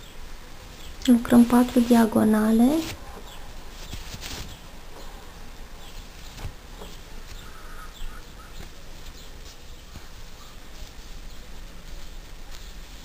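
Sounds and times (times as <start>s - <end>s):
steady background hiss: 0.0s - 13.0s
yarn rustles and needle clicks: 0.8s - 7.5s, 8.5s - 13.0s.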